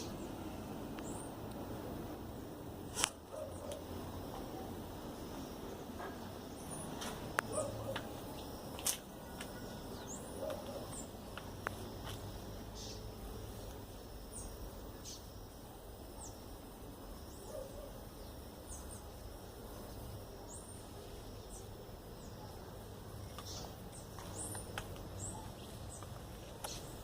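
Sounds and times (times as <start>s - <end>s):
small birds chirping: 0.0s - 1.6s, 3.3s - 15.4s, 17.2s - 27.0s
faint insect hum: 0.0s - 27.0s.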